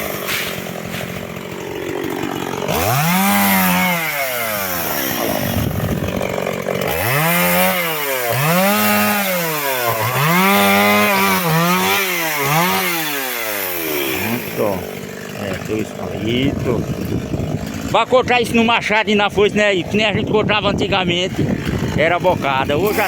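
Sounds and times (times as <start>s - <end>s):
chainsaw revving while cutting: 0.0s - 23.0s.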